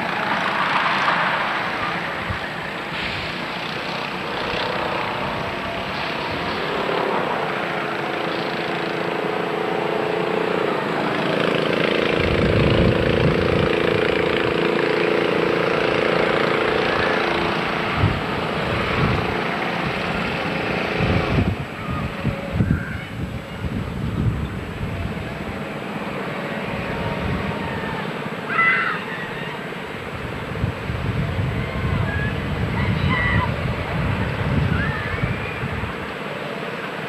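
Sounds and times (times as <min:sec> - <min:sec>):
engine drone: 0:00.0 - 0:37.0
low rumbling buffets: 0:00.0 - 0:37.0
noisy background: 0:00.0 - 0:37.0.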